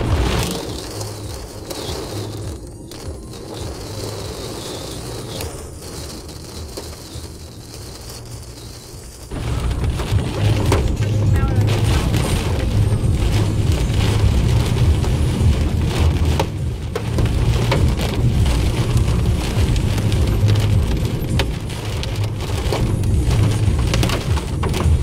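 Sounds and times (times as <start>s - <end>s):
engine and road rumble: 0.0s - 25.0s
heavy rain hissing: 0.0s - 25.0s
raindrops ticking on car body: 0.0s - 25.0s.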